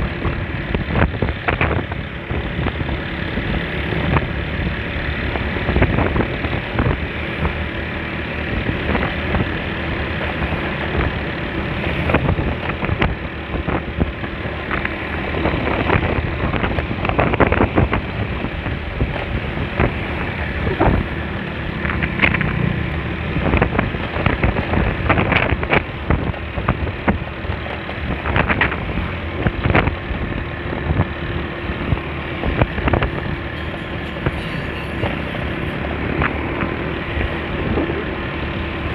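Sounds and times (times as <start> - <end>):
scooter engine running: 0.0 - 38.9
wind rushing over microphone: 0.0 - 38.9.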